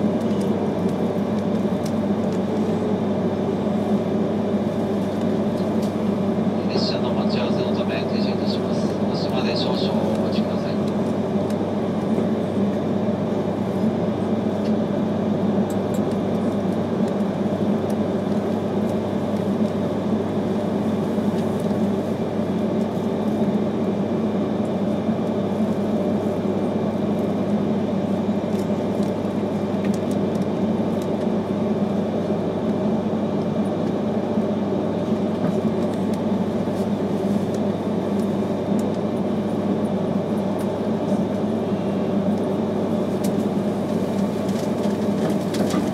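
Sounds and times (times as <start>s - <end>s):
train hum and rumble: 0.0s - 45.9s.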